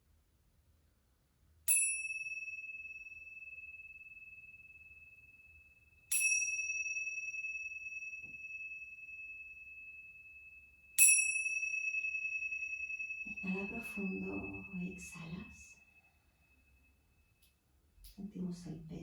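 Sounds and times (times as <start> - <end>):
small metal chime ringing: 1.7 - 17.0.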